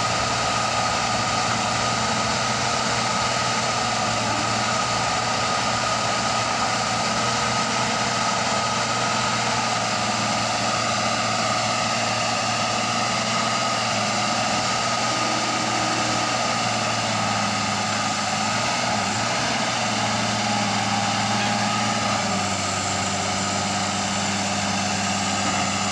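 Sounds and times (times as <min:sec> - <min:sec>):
drilling rig engine humming: 0:00.0 - 0:25.9.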